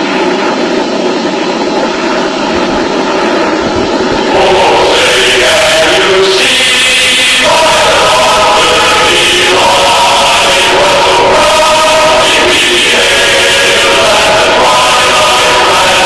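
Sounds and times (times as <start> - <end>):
steady hiss: 0.0 - 16.0
choir singing held chords: 1.5 - 16.0.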